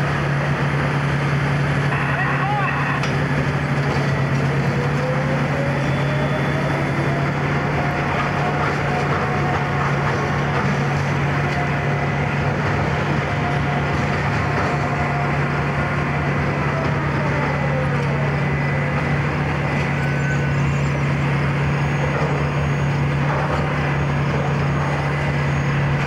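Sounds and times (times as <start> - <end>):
diesel engine drone: 0.0 - 26.0
mechanical whine: 0.1 - 26.0.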